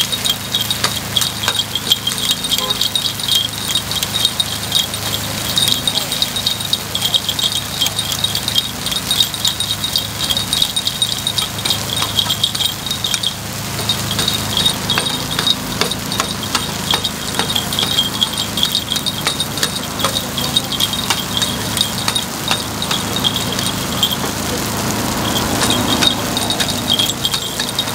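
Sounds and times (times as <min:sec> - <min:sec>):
metal picks clicking on pan: 0:00.0 - 0:27.9.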